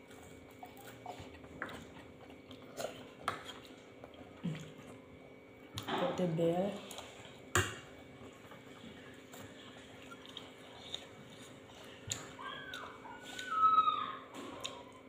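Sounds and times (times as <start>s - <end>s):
faint eating sounds: 0.0s - 15.0s.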